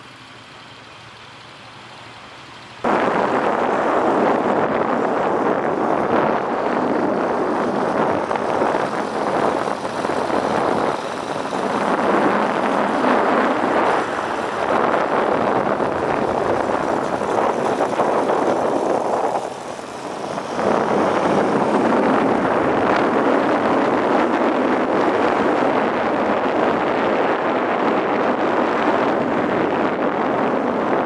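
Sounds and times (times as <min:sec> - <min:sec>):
motorcycle engine: 0:00.0 - 0:31.0
road noise: 0:00.0 - 0:31.0
wind rushing over microphone: 0:02.8 - 0:31.0.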